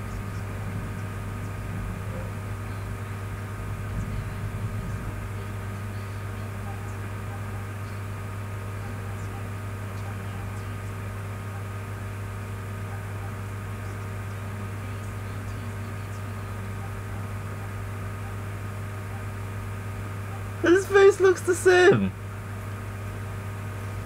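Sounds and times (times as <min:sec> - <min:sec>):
faint steady tones: 0:00.0 - 0:24.0
low hum: 0:00.0 - 0:24.0.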